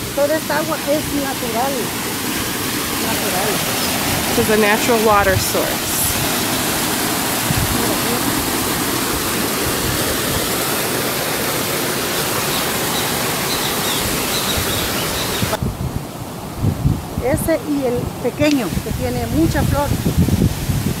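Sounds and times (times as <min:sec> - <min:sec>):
water rushing and splashing: 0:00.0 - 0:21.0.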